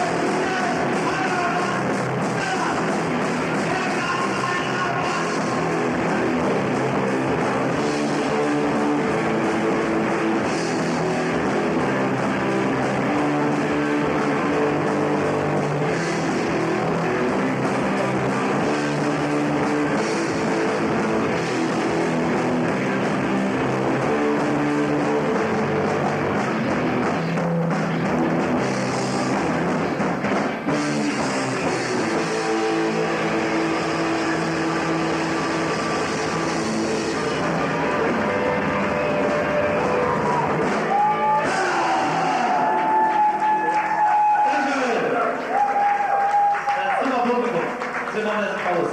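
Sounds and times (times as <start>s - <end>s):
punk rock band playing live: 0.0s - 44.7s.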